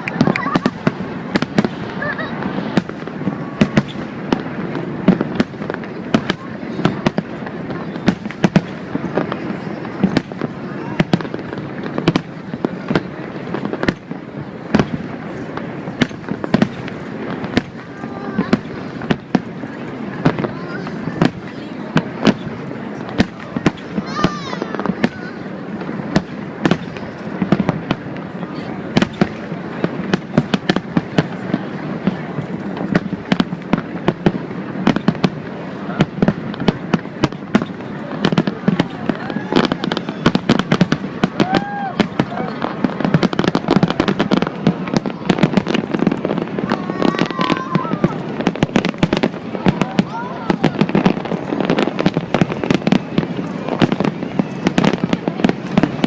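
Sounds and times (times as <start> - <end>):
fireworks crackle and rumble: 0.0 - 56.0
fireworks exploding with sharp bangs: 0.0 - 56.0.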